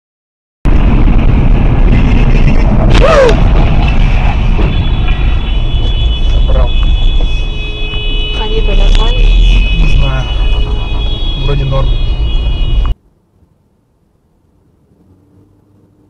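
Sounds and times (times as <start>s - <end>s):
car road and wind rumble: 0.7s - 16.0s.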